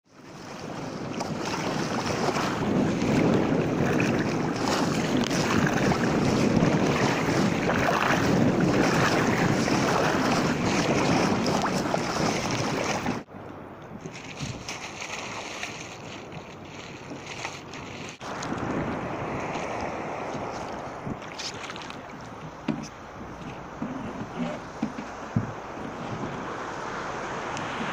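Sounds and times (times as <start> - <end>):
waves splashing against hull: 0.1 - 27.9
wind buffeting microphone: 0.2 - 27.9.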